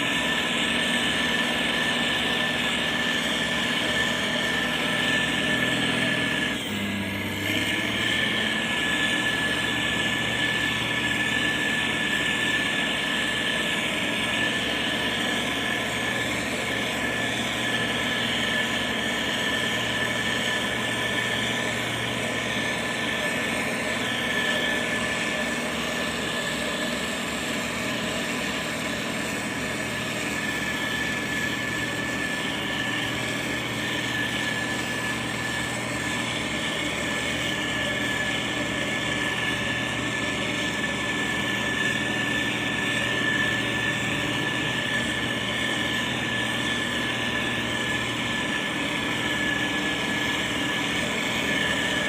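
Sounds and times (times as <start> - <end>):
diesel engine running: 0.0 - 52.0
high-pitched whine: 0.0 - 52.0.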